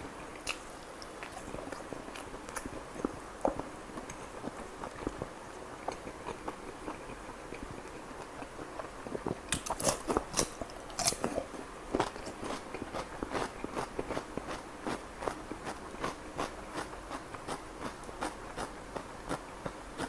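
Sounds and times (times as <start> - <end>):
person chewing food: 0.2 - 20.0.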